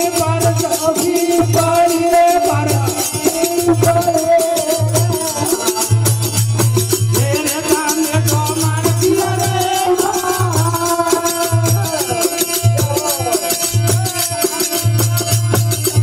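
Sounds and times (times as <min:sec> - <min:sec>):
hand percussion: 0:00.0 - 0:16.0
man singing through microphone: 0:00.0 - 0:16.0.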